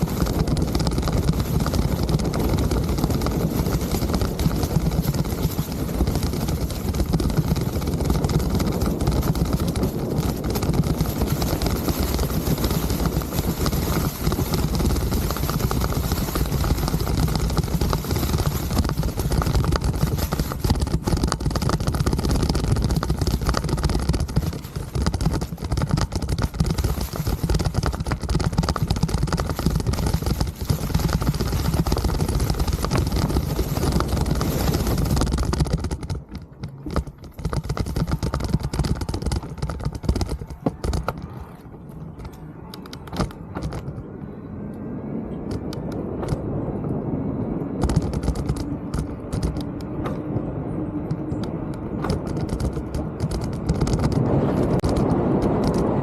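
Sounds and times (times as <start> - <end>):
bike clattering and rattling: 0.0 - 44.0, 45.5 - 46.5, 47.8 - 50.4, 51.0 - 56.0
wind rumble on microphone: 0.0 - 56.0.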